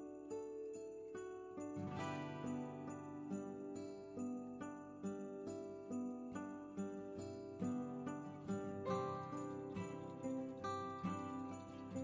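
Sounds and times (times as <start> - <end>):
background music melody: 0.0 - 12.0.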